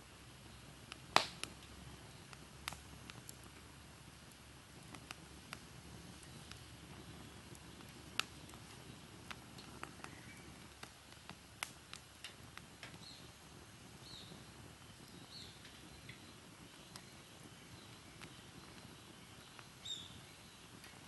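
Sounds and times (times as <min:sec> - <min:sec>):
low steady rumble: 0:00.0 - 0:21.0
wood fire crackling: 0:00.0 - 0:21.0
sharp pops of fire: 0:00.2 - 0:21.0.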